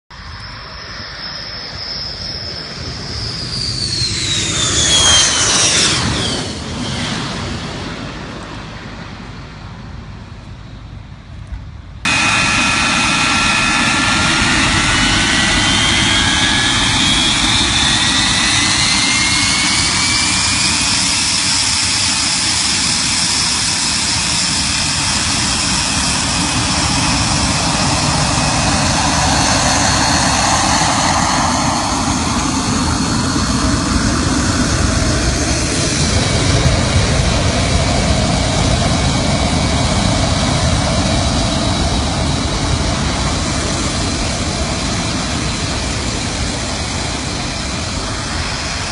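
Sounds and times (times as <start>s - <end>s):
fighter jet engine roar: 0.1s - 48.9s.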